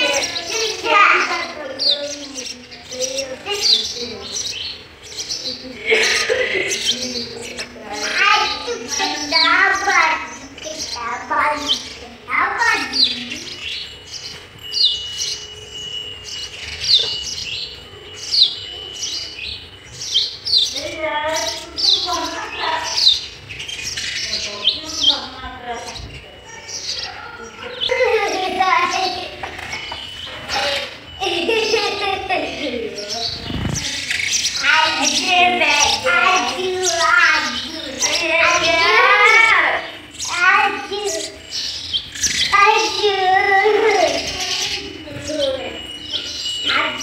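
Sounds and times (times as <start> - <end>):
nestlings begging cheeps: 0.0 - 47.0
sparrows chirping: 0.0 - 47.0
thin steady high tone: 0.0 - 47.0.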